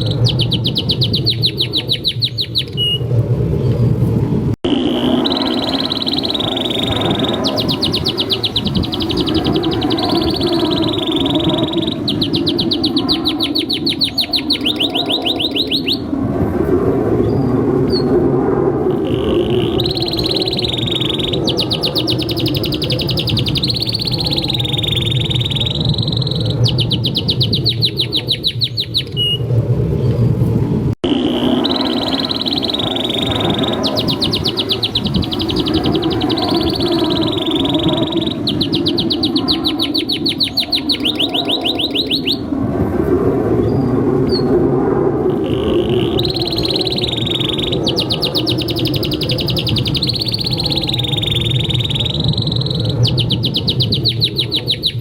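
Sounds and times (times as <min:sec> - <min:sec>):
canary singing trills: 0:00.0 - 0:03.0, 0:04.7 - 0:16.1, 0:18.9 - 0:29.4, 0:31.0 - 0:42.5, 0:45.3 - 0:55.0
steady low rumble: 0:00.0 - 0:55.0.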